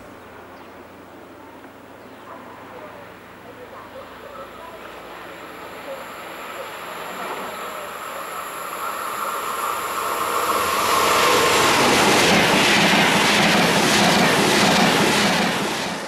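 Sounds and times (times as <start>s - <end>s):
train passing on rails: 0.0s - 16.0s.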